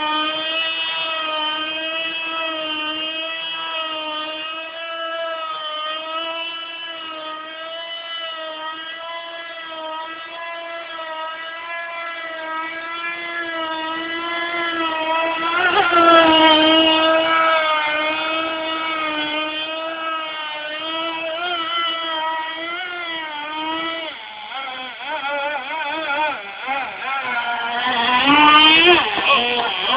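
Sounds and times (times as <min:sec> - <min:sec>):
rc boat engine whining: 0:00.0 - 0:29.9.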